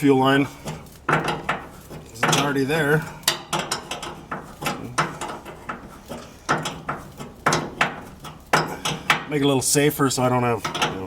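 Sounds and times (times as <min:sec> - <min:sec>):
hand tools and metal parts clinking: 0:00.0 - 0:11.0.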